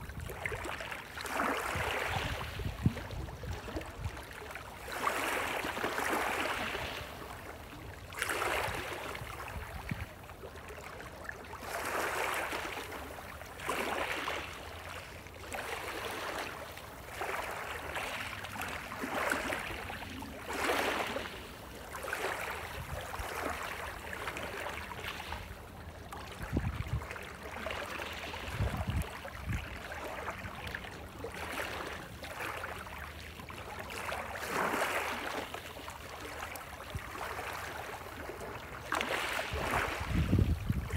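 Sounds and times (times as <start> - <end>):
small waves lapping: 0.0 - 40.9.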